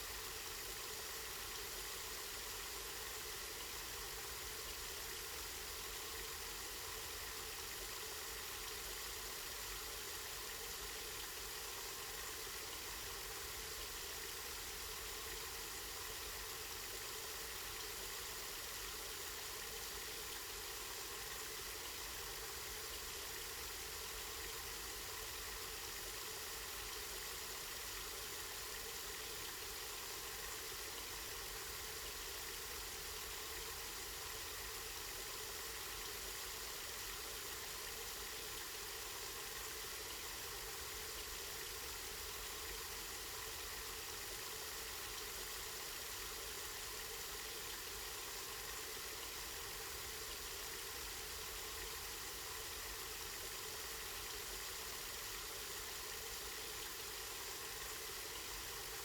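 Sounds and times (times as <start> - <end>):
spring water running and splashing: 10.4 - 59.0.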